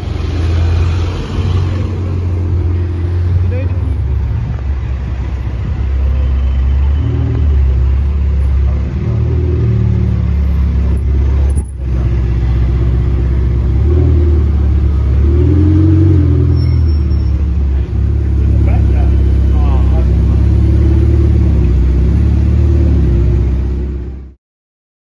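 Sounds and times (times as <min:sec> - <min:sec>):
car engine deep rumble: 0:00.0 - 0:24.4.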